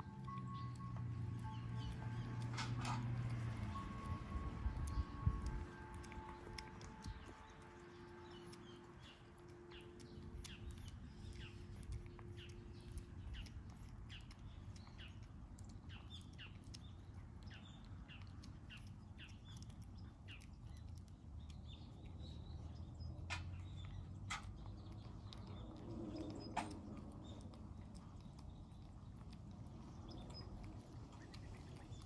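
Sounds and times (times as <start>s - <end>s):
low steady rumble: 0.0s - 32.0s
small birds chirping: 0.0s - 32.0s.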